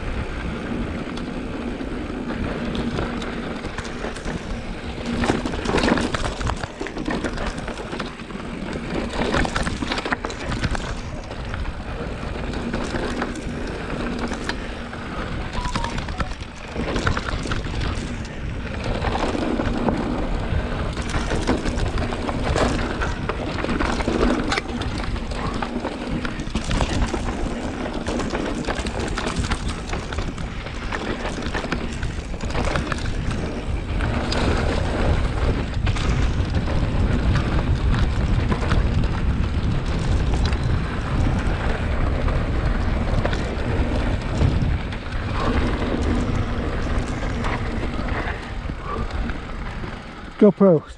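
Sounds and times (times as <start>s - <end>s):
wind buffeting microphone: 0.0s - 50.4s
bike rattling and clattering: 0.0s - 50.9s
bike tyres rolling on dirt: 0.0s - 50.9s.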